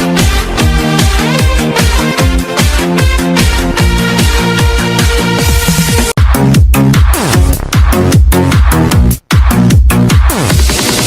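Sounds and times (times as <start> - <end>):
electronic dance music: 0.0 - 11.0
kick drum beat: 0.1 - 11.0.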